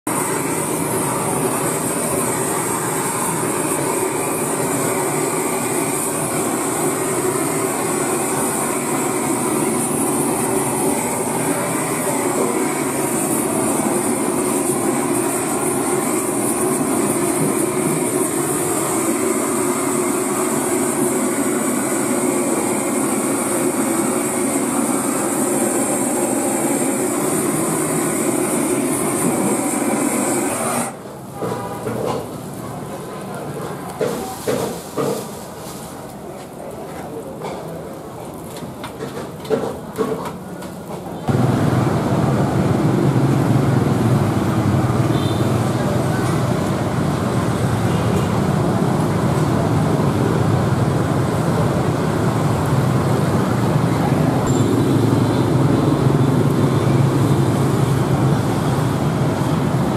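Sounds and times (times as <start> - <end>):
blowtorch hissing: 0.1 - 31.2, 34.0 - 40.1, 41.3 - 59.9.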